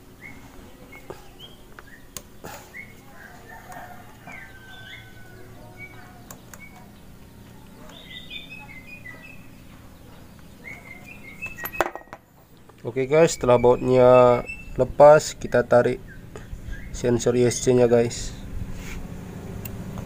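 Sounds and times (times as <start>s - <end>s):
small birds chirping: 0.0s - 18.6s.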